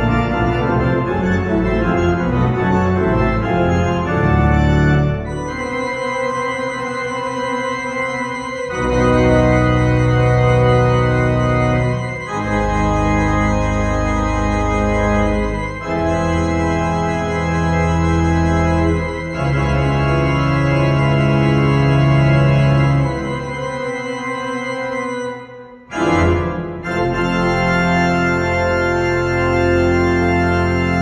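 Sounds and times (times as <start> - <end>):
church organ chords: 0.0 - 31.0.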